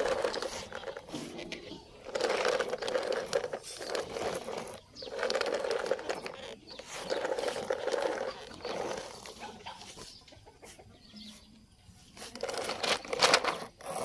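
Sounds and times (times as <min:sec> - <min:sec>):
toy truck wheels crunching on dirt: 0:00.0 - 0:10.2, 0:11.9 - 0:14.0.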